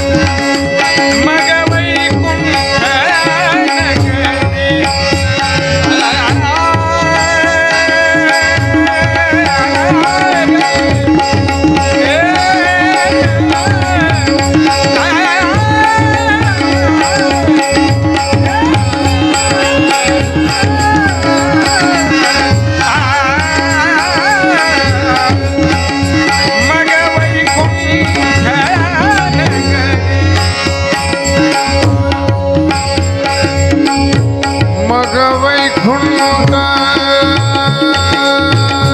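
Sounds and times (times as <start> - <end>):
held drone tones: 0.0 - 34.6
hand-drum rhythm: 0.0 - 38.9.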